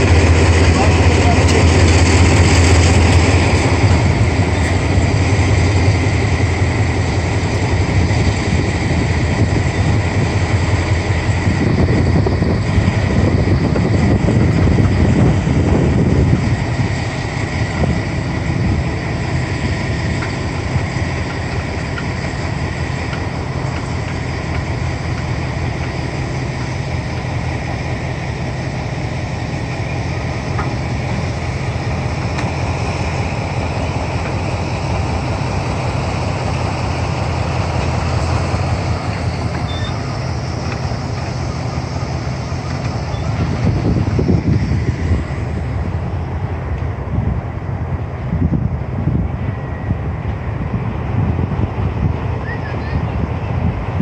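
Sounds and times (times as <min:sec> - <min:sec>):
idling locomotive rumble and hiss: 0:00.0 - 0:54.0.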